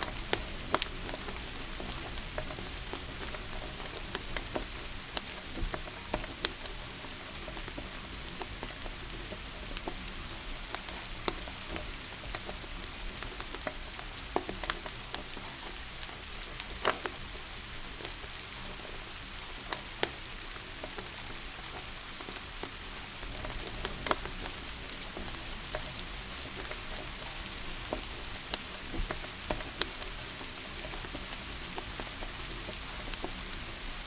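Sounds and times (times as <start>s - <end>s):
falling rain hiss: 0.0s - 34.0s
wood fire crackling: 0.0s - 34.0s.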